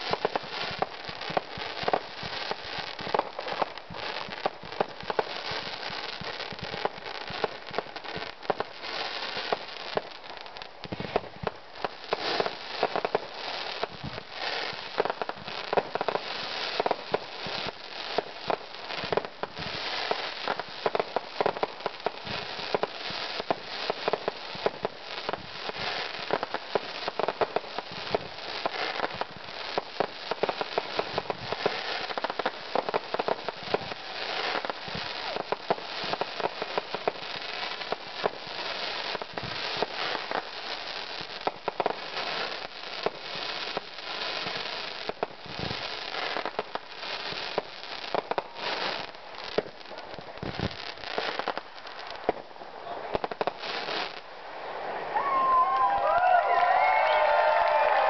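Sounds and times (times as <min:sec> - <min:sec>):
fireworks bangs: 0:00.0 - 0:58.0
fireworks crackling: 0:00.0 - 0:58.0
heavy fireworks booms: 0:00.0 - 0:58.0.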